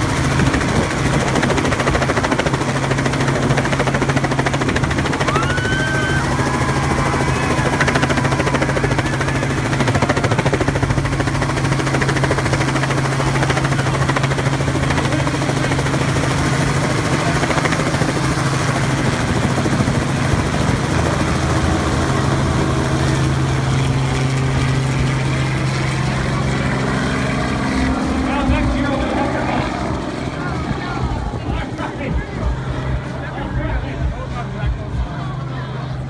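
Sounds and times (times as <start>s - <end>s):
helicopter flying overhead: 0.0s - 36.0s.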